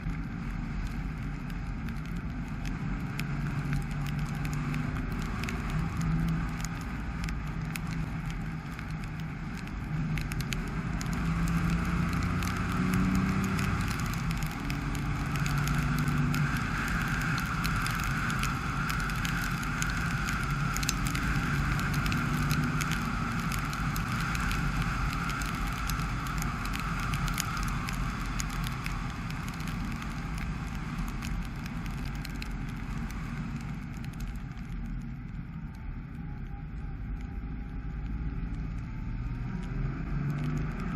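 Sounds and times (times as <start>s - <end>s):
light ticks: 0.0s - 40.9s
tyre noise on wet road: 0.0s - 40.9s.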